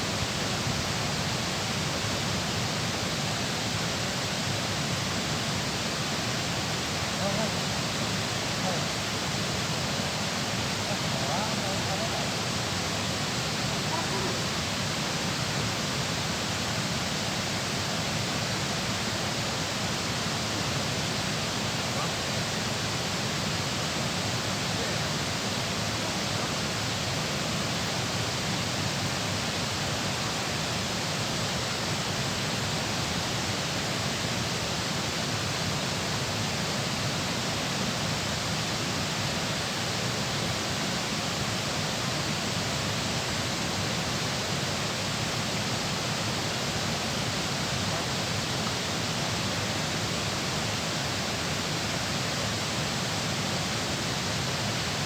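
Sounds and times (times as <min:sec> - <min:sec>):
water roaring over dam: 0:00.0 - 0:55.0.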